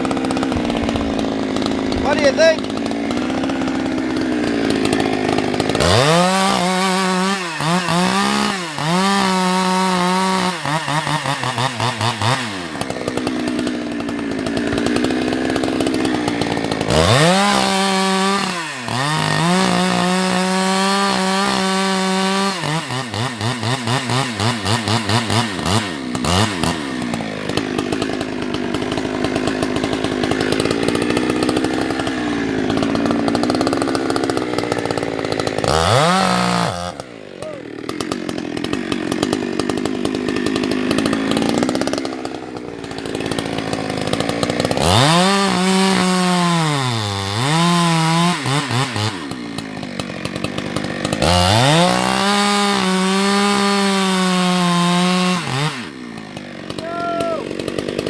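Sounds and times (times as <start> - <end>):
chainsaw cutting firewood: 0.0 - 58.0.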